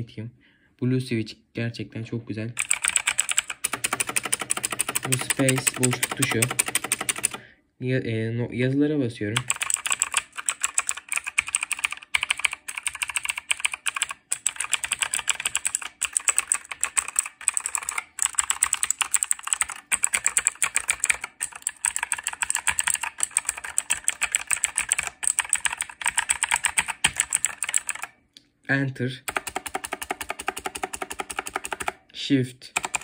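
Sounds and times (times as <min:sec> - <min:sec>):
mechanical keyboard typing: 0:02.6 - 0:07.4, 0:09.4 - 0:28.2, 0:29.2 - 0:32.0, 0:32.7 - 0:33.0.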